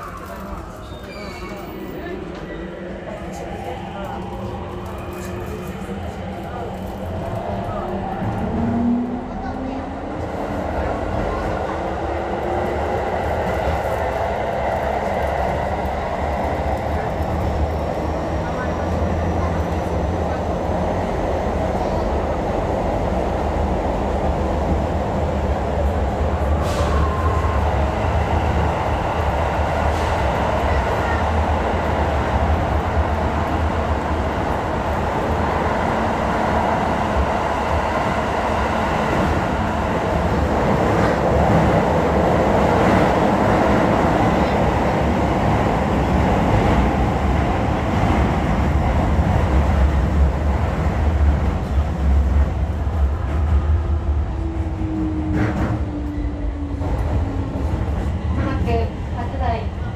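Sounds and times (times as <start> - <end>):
subway train rumbling: 0.0 - 59.9.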